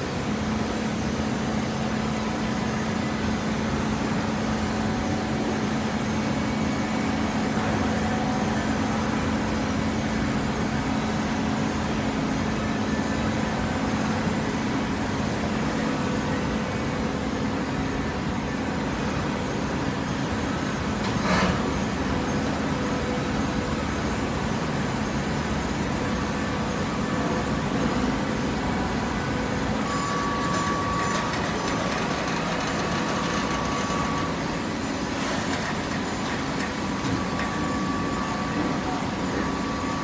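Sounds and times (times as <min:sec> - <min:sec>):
machine noise: 0:00.0 - 0:40.0.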